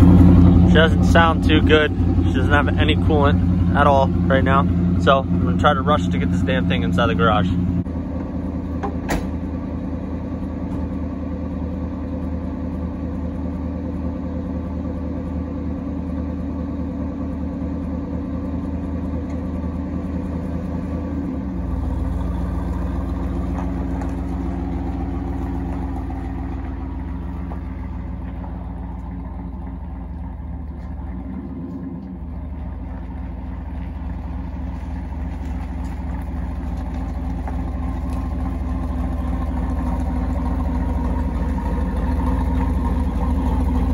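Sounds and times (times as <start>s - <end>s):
car engine idling roughly: 0.0s - 43.9s.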